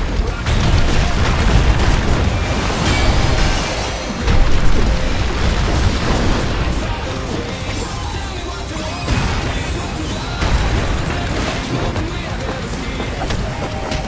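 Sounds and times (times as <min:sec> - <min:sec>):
action music: 0:00.0 - 0:14.0
fight booms and crashing impacts: 0:00.0 - 0:14.0.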